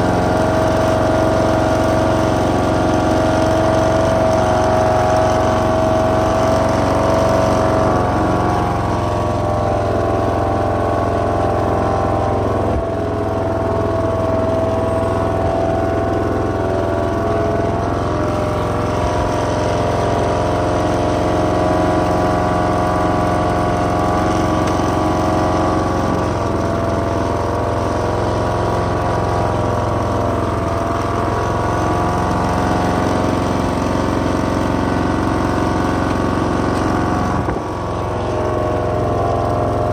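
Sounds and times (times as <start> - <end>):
ride-on mower engine running: 0.0 - 39.9.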